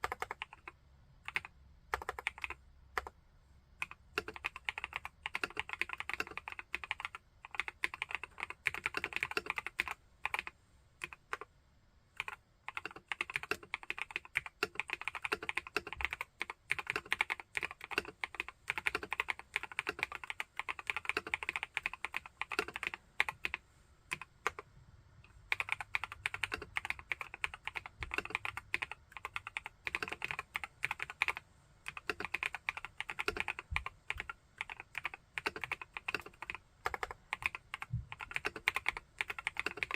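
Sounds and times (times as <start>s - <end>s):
mechanical keyboard typing: 0.0s - 3.2s, 3.8s - 11.5s, 12.2s - 24.6s, 25.3s - 39.9s.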